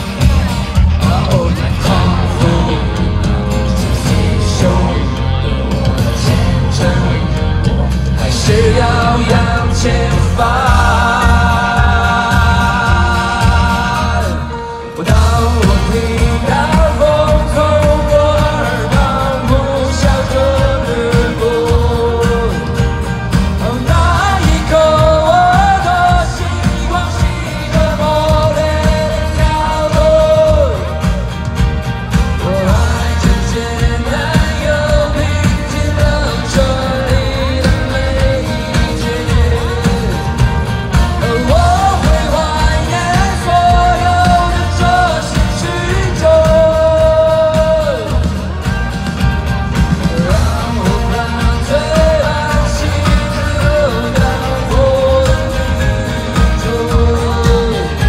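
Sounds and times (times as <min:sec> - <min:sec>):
live rock band playing: 0:00.0 - 0:58.0
man singing: 0:00.0 - 0:58.0.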